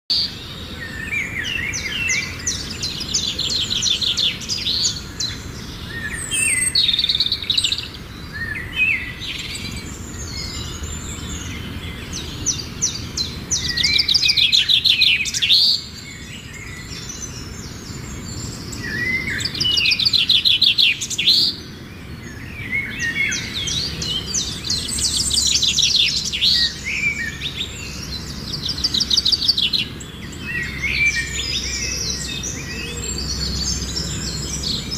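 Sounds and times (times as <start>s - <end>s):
birds trilling: 0.1s - 34.9s.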